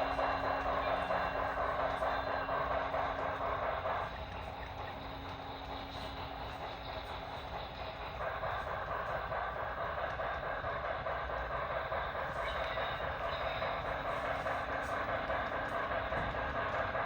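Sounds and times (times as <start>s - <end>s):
model train rolling on track: 0.0s - 17.0s
steam locomotive sounds from speaker: 0.0s - 17.0s.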